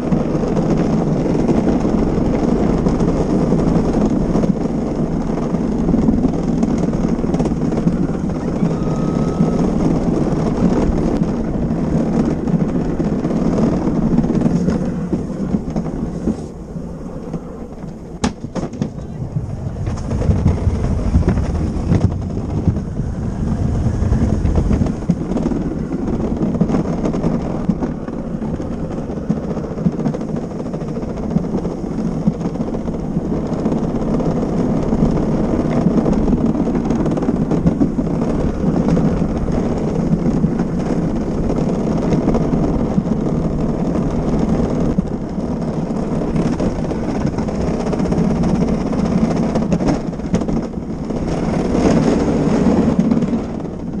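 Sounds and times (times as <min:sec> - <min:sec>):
cart wheels rumbling on pavement: 0:00.0 - 0:54.0.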